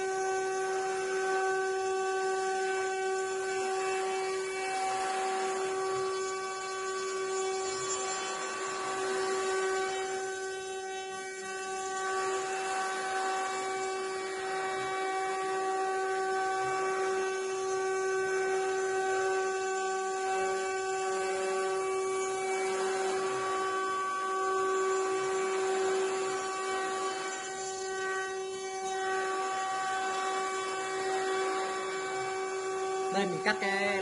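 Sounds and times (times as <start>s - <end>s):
router spindle motors whining: 0.0s - 34.0s.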